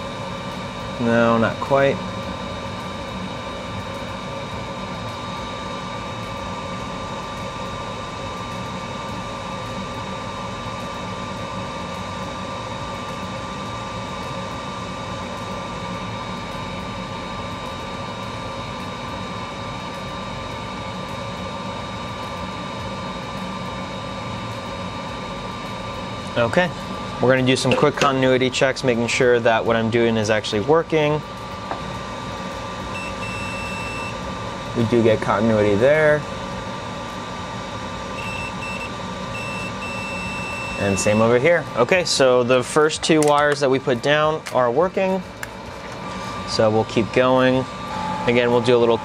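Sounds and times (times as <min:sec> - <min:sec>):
fan whirring hum: 0:00.0 - 0:49.0
thin constant whine: 0:00.0 - 0:49.0.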